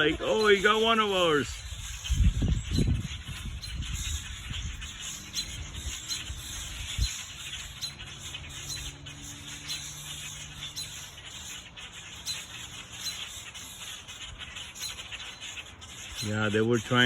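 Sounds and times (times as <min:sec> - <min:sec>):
small birds alarm calls: 0:00.0 - 0:17.0.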